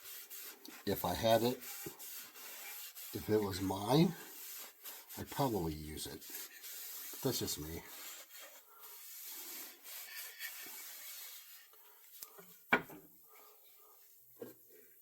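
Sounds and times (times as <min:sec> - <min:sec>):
rubbing on wooden axe handle: 0:00.0 - 0:12.6.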